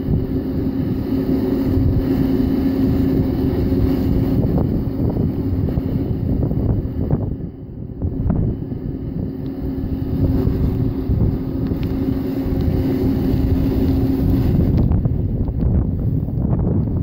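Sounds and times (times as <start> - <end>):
crane engine running: 0.0 - 17.0
steady mechanical whine: 0.0 - 17.0
wind buffeting microphone: 0.0 - 17.0.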